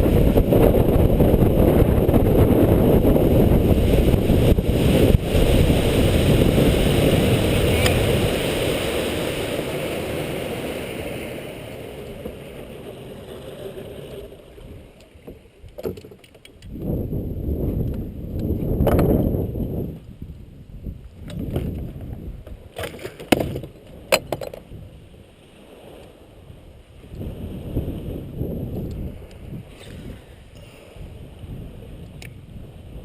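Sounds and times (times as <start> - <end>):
wind buffeting microphone: 0.0 - 16.0, 16.6 - 33.0.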